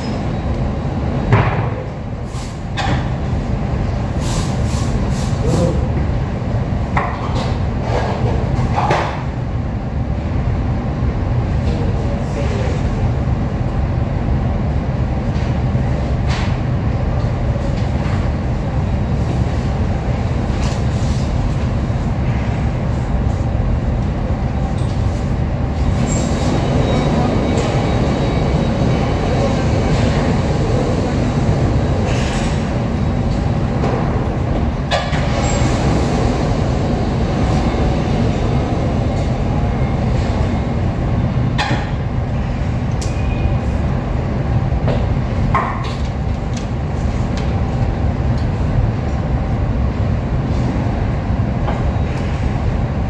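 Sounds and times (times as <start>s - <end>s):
low mechanical rumble: 0.0s - 53.0s.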